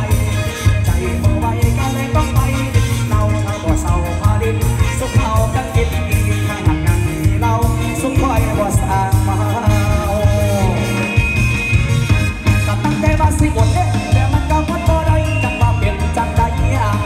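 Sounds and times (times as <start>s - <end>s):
band music over loudspeakers: 0.0s - 17.0s
bass and drum beat: 0.0s - 17.0s.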